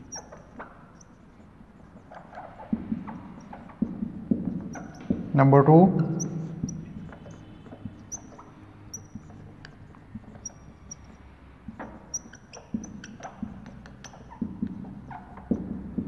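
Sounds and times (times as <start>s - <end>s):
marker squeaking on whiteboard: 0.0s - 16.0s
marker tapping on board: 0.1s - 5.4s, 6.2s - 16.0s.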